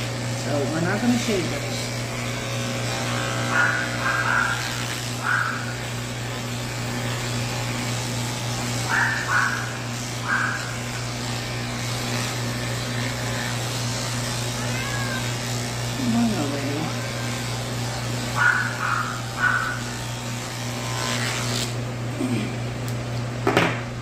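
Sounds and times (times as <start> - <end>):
electric pet clippers humming: 0.0 - 24.0.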